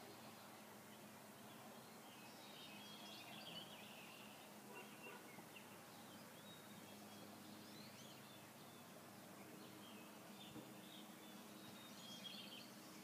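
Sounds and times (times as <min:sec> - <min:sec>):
small birds chirping and whistling: 0:01.5 - 0:13.0.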